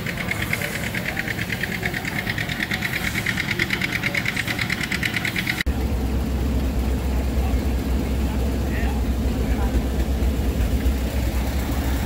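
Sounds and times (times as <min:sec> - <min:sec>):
steam engine beating: 0:00.0 - 0:12.0.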